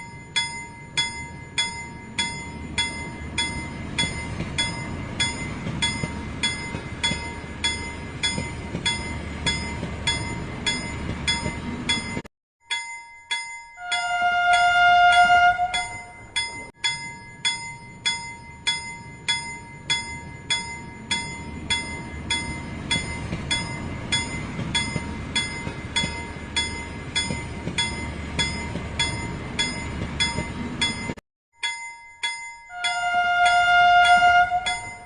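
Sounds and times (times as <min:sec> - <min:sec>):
bell-like dings: 0:00.0 - 0:35.0.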